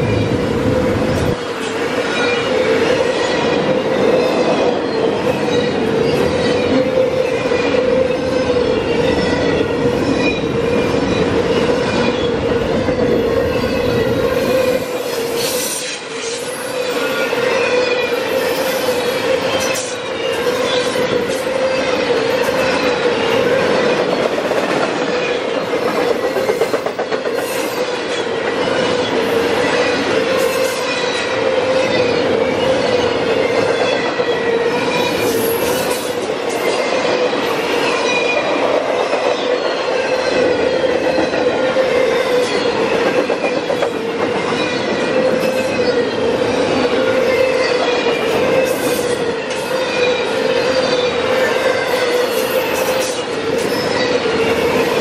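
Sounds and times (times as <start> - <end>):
wavering high squeal: 0.0 - 24.0, 26.1 - 55.0
train wheels clattering on rails: 0.0 - 55.0.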